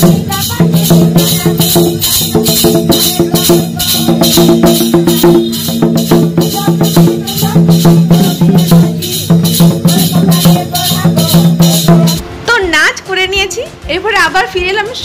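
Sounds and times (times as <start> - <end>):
metal rattle jingling: 0.0 - 12.2
hand drum beating: 0.0 - 12.3.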